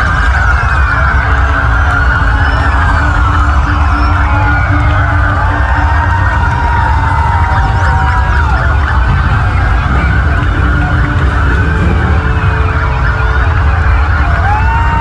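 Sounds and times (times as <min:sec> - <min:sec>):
low steady rumble: 0:00.0 - 0:15.0
police sirens wailing: 0:00.0 - 0:15.0.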